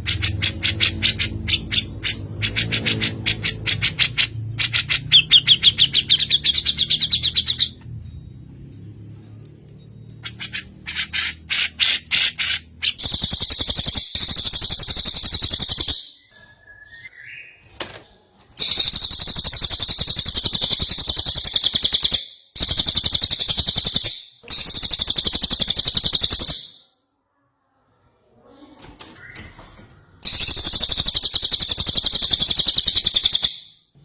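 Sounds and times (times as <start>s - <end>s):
songbird chirps and trills: 0.0s - 26.8s, 30.2s - 33.7s.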